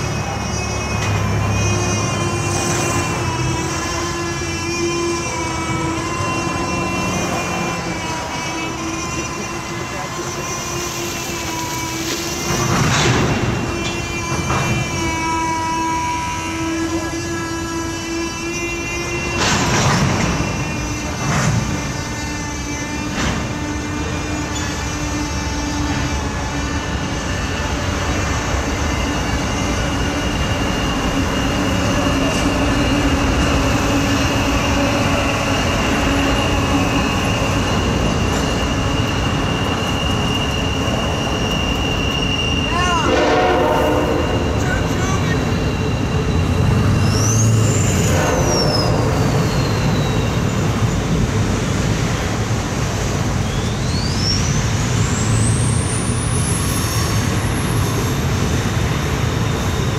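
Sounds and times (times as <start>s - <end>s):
steam locomotive rumble and hiss: 0.0s - 59.9s.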